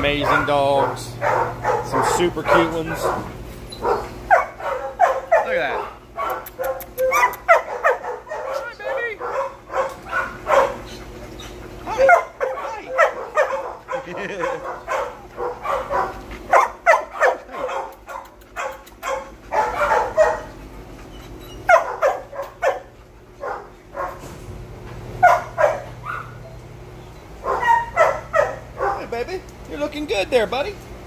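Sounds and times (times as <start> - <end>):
dogs barking: 0.0 - 29.5.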